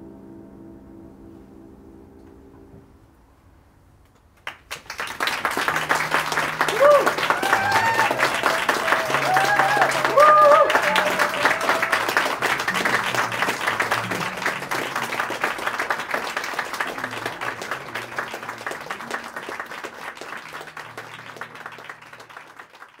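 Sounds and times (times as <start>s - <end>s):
audience applauding: 4.4s - 23.0s.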